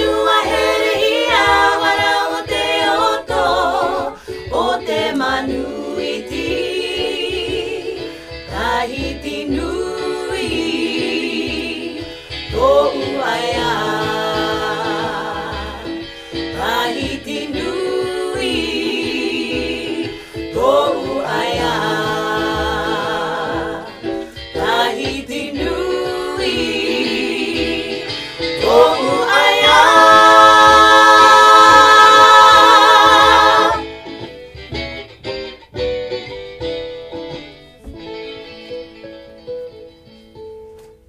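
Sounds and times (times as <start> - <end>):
vocal group singing in harmony: 0.0 - 33.9
plucked guitar: 0.0 - 41.0.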